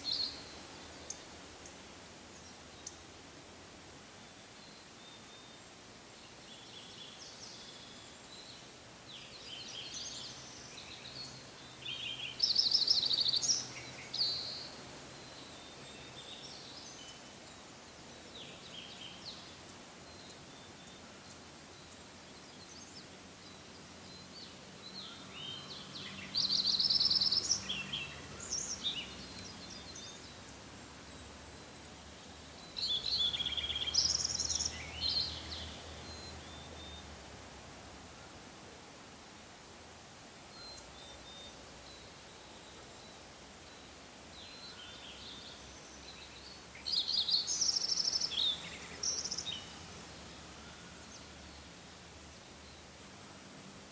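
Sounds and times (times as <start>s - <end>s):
quiet forest background: 0.0s - 53.9s
songbirds trilling and chirping: 0.0s - 53.9s.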